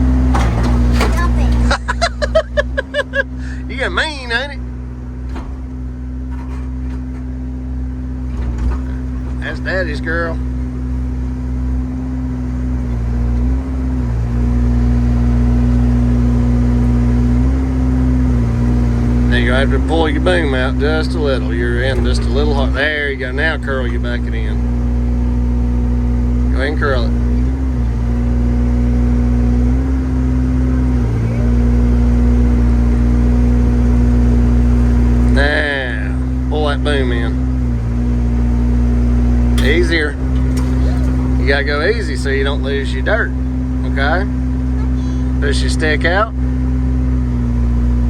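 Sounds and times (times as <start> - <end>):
excavator engine running: 0.0 - 48.0.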